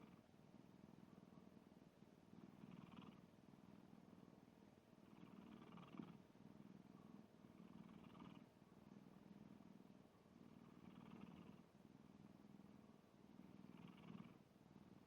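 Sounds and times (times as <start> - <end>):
cat snoring faintly: 0.0 - 15.0.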